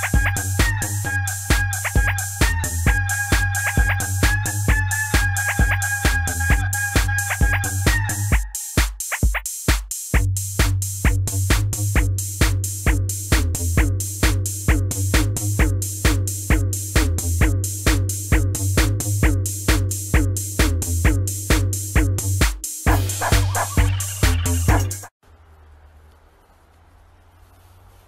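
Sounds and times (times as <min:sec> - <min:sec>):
electronic music with drum beat: 0:00.0 - 0:25.1.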